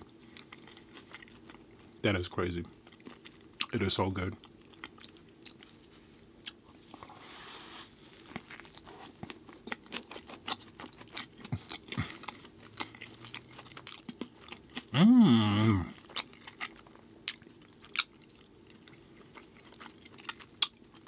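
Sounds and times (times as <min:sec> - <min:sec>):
close chewing: 0:00.0 - 0:02.0, 0:02.6 - 0:07.1, 0:08.0 - 0:15.0, 0:15.8 - 0:21.0.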